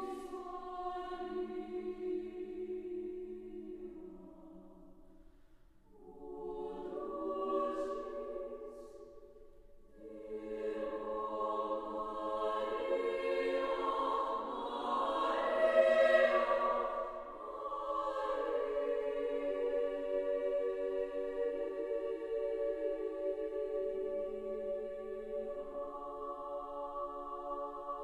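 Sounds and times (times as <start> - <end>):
women's chorus singing chords: 0.0 - 5.1, 5.8 - 28.0.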